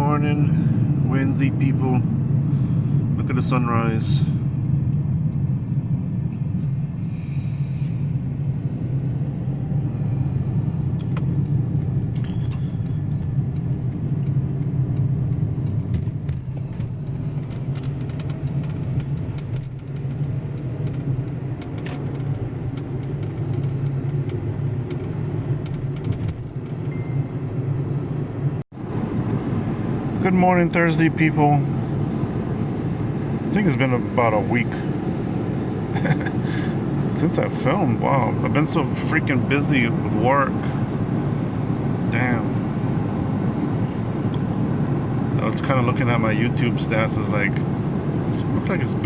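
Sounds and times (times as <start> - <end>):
vehicle engine and road rumble: 0.0 - 49.0.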